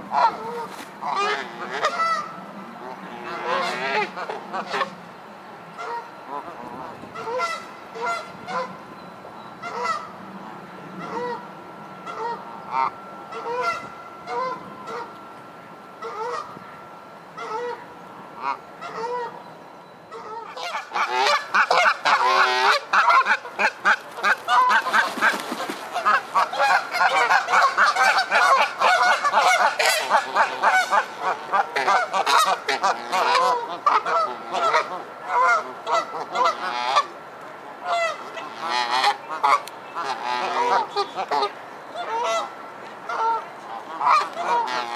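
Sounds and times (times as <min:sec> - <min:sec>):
geese honking: 0:00.0 - 0:05.0, 0:05.7 - 0:08.8, 0:09.6 - 0:10.2, 0:10.9 - 0:15.2, 0:15.9 - 0:19.4, 0:20.1 - 0:37.2, 0:37.8 - 0:44.9.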